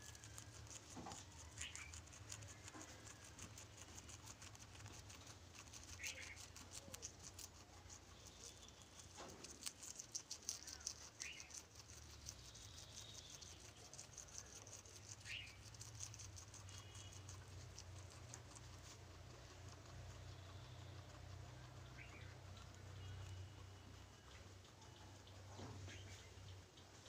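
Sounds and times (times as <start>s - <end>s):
guinea pig chirps: 0.0s - 27.0s
guinea pigs pattering: 0.0s - 27.0s.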